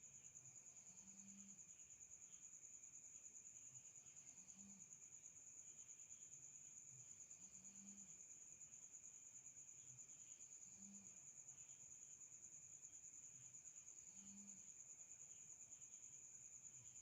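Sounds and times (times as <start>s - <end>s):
faint low hum: 0.0s - 17.0s
high-pitched cricket trill: 0.0s - 17.0s.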